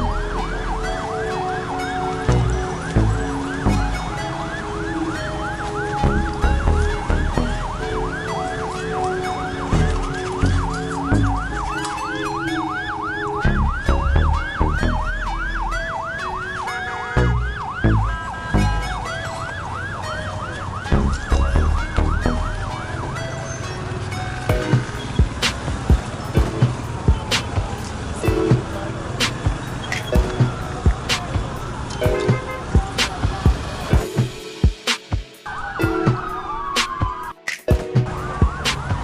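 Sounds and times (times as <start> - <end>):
siren yelping: 0.0 - 39.0.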